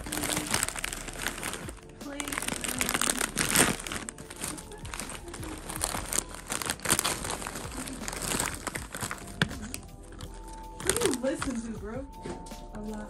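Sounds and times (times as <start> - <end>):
plastic bag and wrappers crinkling: 0.0 - 11.8.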